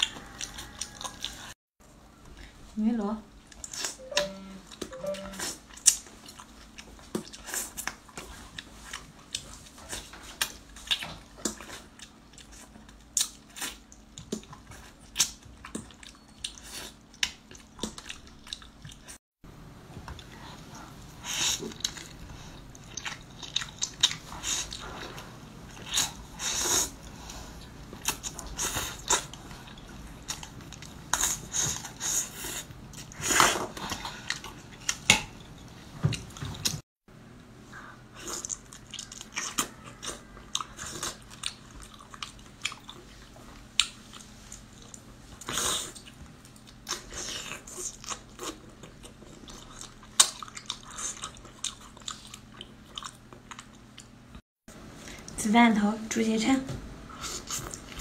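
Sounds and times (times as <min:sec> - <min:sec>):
close chewing and mouth smacks: 0:00.0 - 0:01.6, 0:03.4 - 0:04.0, 0:04.7 - 0:19.2, 0:20.0 - 0:36.8, 0:37.8 - 0:54.4, 0:57.2 - 0:58.0.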